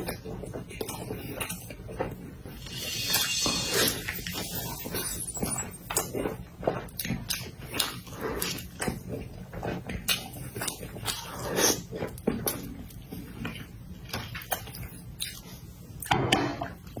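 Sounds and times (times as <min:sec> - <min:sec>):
wet chewing: 0:00.0 - 0:16.2.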